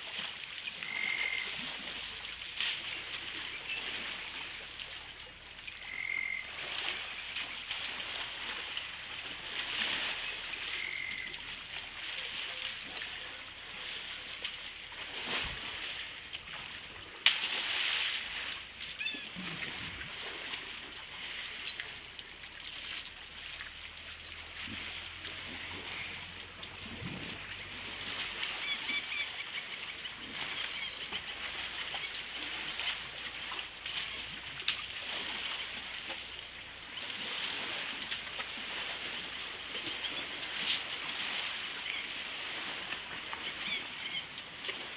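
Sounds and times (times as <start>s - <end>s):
frogs croaking: 0.0s - 44.9s.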